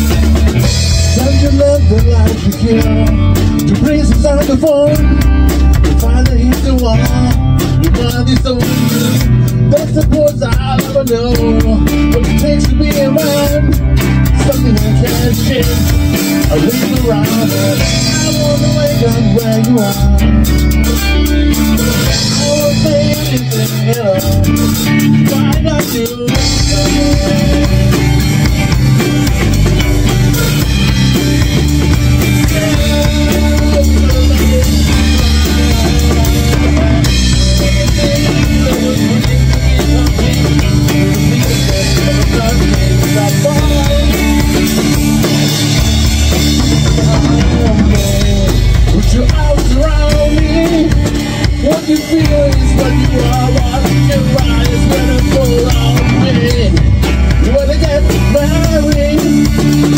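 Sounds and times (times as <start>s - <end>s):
acoustic guitar: 0.0s - 59.9s
drum kit: 0.0s - 59.9s
electric guitar: 0.0s - 59.9s
man singing into a microphone: 0.0s - 59.9s.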